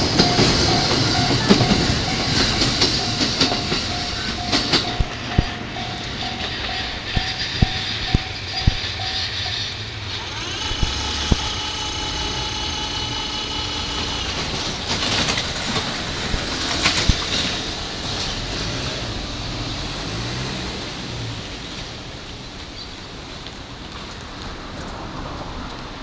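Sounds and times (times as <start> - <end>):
electric train whine: 0.0 - 22.6
train wheels clacking over rails: 0.0 - 23.4.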